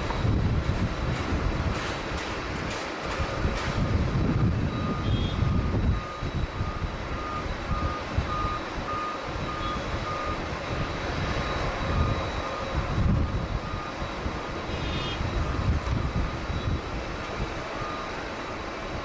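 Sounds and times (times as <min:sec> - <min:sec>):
reversing alarm beeping: 0:00.0 - 0:01.4, 0:03.3 - 0:19.0
wind rumble on microphone: 0:00.0 - 0:19.0.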